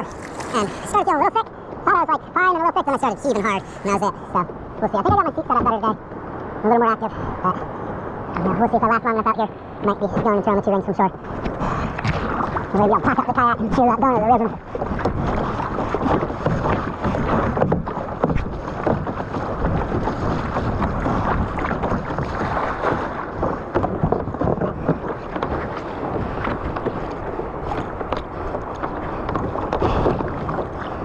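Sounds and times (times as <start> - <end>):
water splashing against kayak hull: 0.0 - 31.0
wind buffeting microphone: 0.0 - 31.0.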